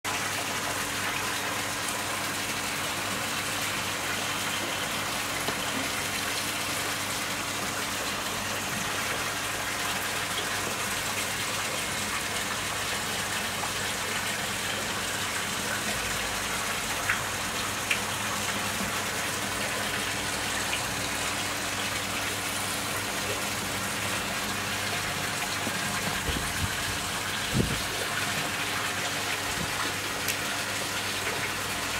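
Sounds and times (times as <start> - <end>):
running water rushing: 0.0 - 31.9.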